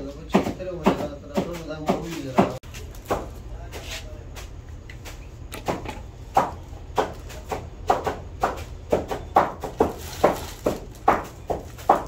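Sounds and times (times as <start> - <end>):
cleavers chopping meat on wood: 0.0 - 12.0.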